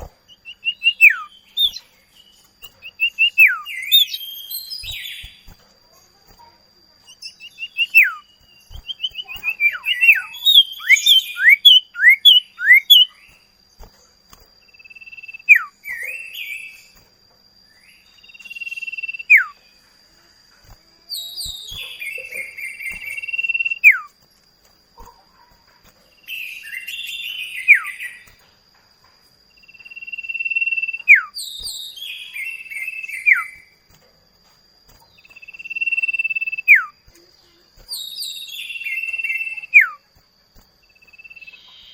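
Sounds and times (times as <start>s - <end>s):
bird song chirps and whistles: 0.0s - 24.3s, 25.0s - 28.5s, 29.5s - 34.0s, 34.9s - 41.9s.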